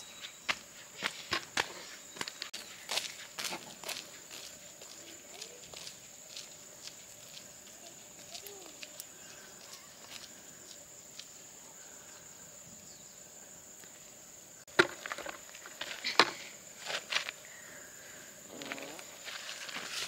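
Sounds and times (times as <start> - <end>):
high insect buzz: 0.0 - 20.0.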